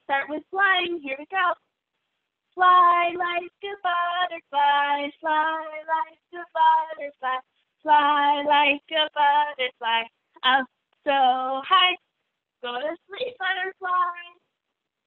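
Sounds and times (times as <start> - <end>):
woman singing unaccompanied: 0.0 - 1.6, 2.6 - 12.0, 12.6 - 14.4.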